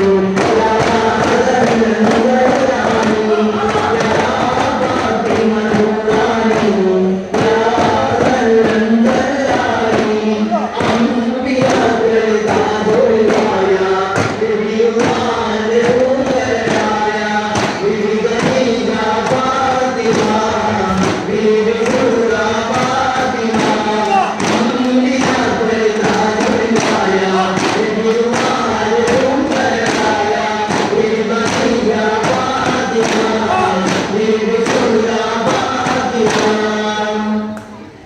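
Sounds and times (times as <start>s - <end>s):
frame drums beating: 0.0s - 37.0s
group chanting in chorus: 0.0s - 38.0s.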